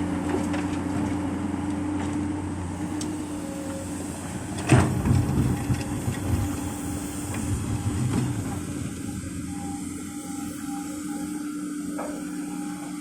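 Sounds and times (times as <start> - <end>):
excavator diesel drone: 0.0 - 13.0.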